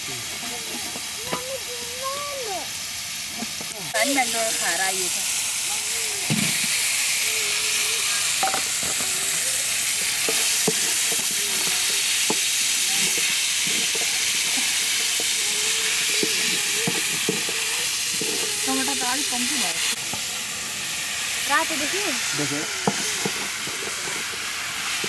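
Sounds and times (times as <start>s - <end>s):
stew boiling hard: 0.0s - 25.0s.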